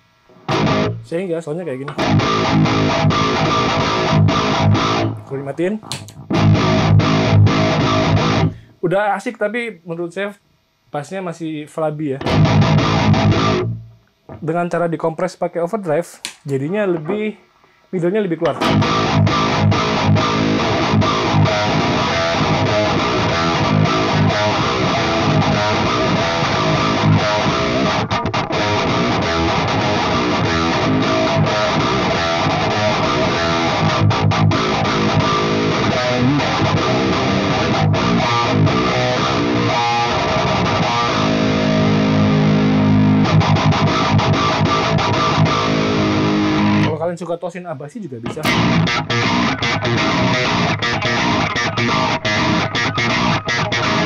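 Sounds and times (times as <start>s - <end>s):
distorted electric guitar riff: 0.0s - 8.8s, 12.2s - 14.6s, 16.5s - 47.0s, 48.2s - 54.0s.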